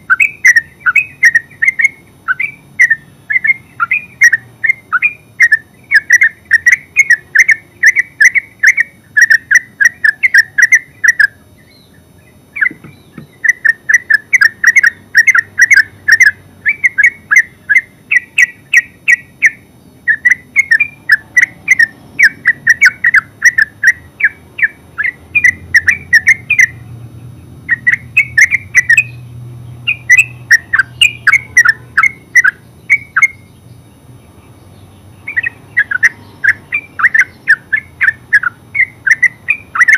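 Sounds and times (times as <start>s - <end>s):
bird rapid chattering call: 0.0s - 39.9s.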